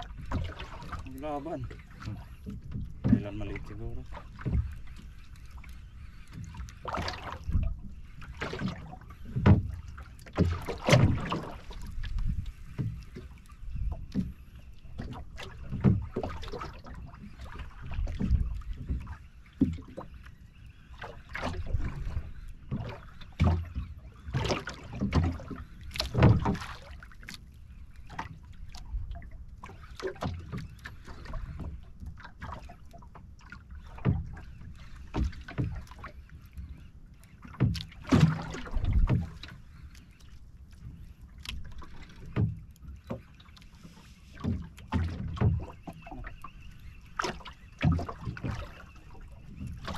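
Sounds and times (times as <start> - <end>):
water slapping against boat hull: 0.0 - 49.9.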